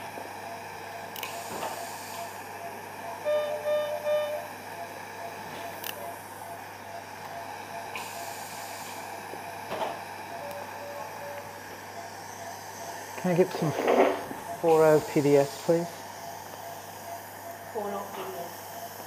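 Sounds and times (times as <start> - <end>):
equipment hum and hiss: 0.0 - 19.0
patient monitor beeping: 1.3 - 19.0.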